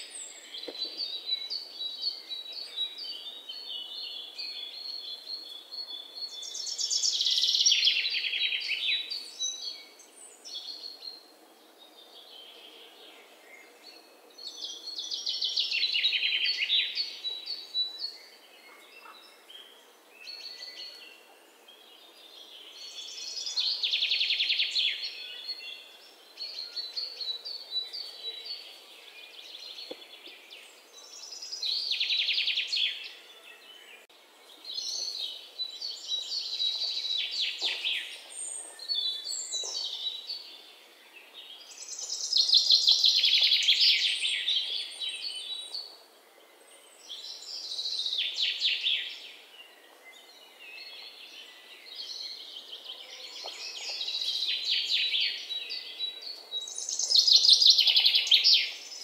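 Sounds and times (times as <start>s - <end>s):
birds singing trilled song: 0.0s - 59.0s.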